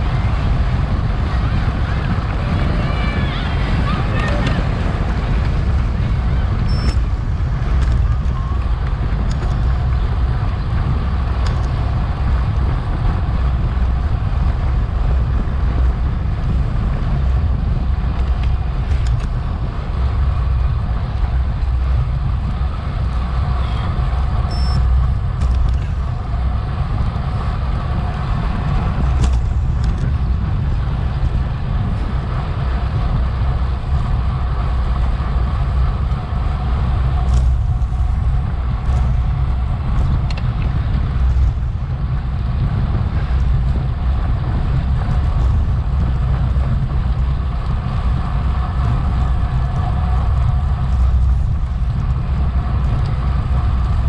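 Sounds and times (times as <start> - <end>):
tyre and road noise: 0.0 - 54.0
wind buffeting microphone: 0.0 - 54.0.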